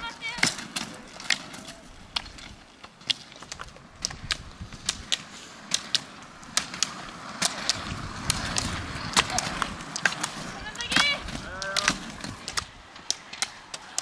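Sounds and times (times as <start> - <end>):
roller ski wheels rumbling: 0.0 - 14.0
ski pole tips clicking on road: 0.0 - 14.0.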